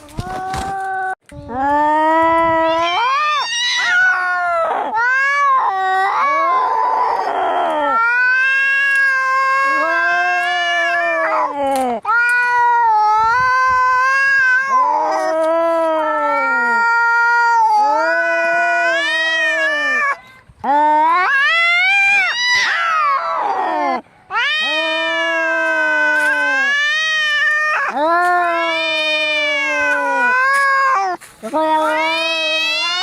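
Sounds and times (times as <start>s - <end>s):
cats yowling in a fight: 2.5s - 20.2s, 21.0s - 33.0s.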